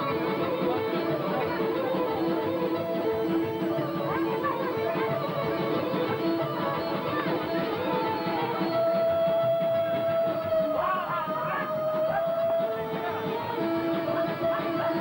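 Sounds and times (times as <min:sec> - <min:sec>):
folk band playing: 0:00.0 - 0:15.0.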